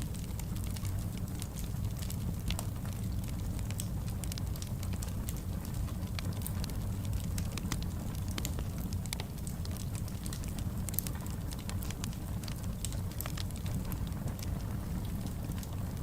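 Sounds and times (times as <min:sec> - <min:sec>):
rumble of flames: 0:00.0 - 0:16.0
wood fire crackling: 0:00.0 - 0:16.0.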